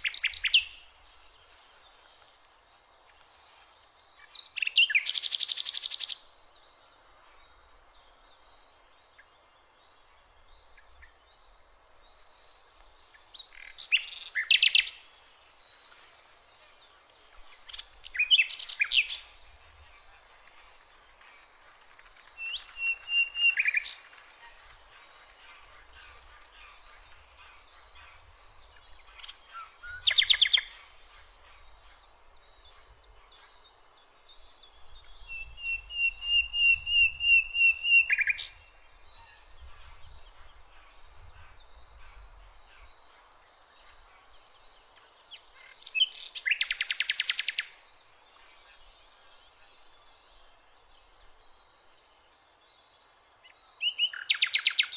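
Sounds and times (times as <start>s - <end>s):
faint background noise: 0.0s - 54.9s
songbird singing: 0.0s - 54.9s.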